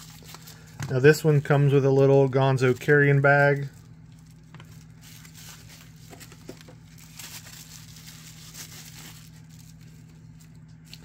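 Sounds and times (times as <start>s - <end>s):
low steady hum: 0.0s - 11.0s
packaging rustling and crinkling: 0.0s - 11.0s.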